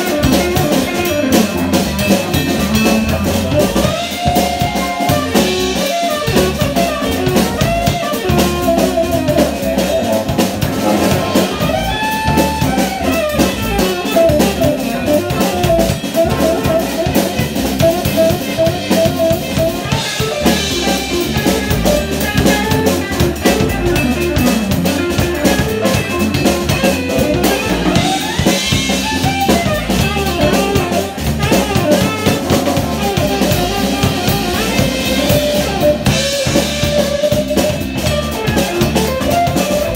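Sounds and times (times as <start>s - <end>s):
drum kit: 0.0s - 39.9s
electric bass: 0.0s - 39.9s
tenor saxophone melody: 0.0s - 39.9s.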